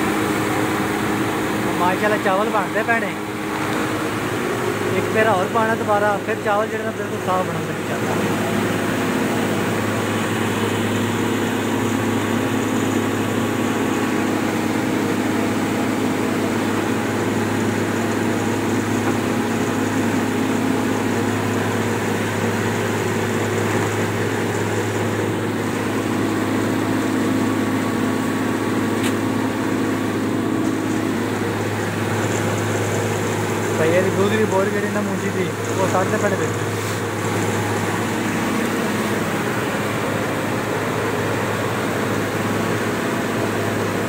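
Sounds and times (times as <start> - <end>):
rice huller motor humming: 0.0 - 44.0.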